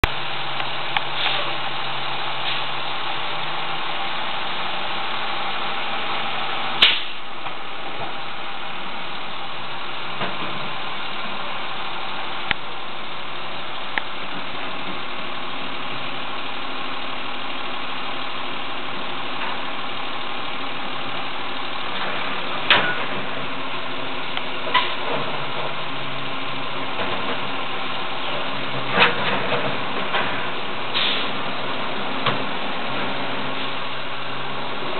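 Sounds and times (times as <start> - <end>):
garbage truck engine running: 0.0 - 34.9.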